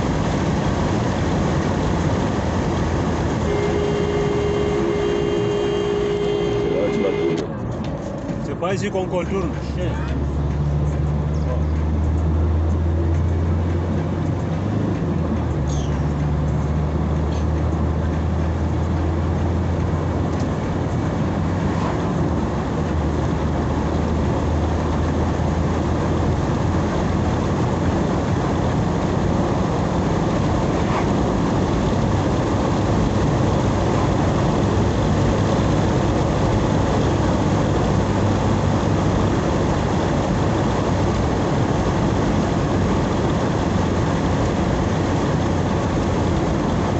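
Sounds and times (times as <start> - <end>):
car engine hum: 0.0 - 46.9
road noise: 0.0 - 46.9.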